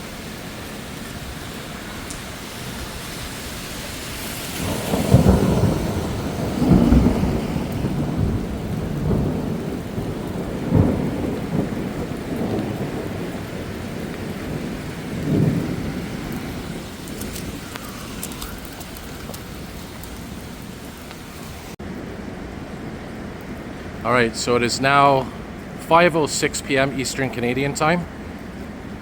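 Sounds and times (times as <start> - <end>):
rain hissing: 0.0 - 29.0
rolling thunder: 1.2 - 29.0.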